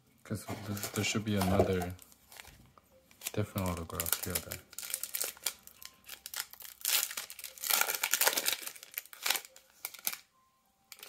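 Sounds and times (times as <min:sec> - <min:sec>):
foil wrapper crinkling and tearing: 0:00.7 - 0:10.3.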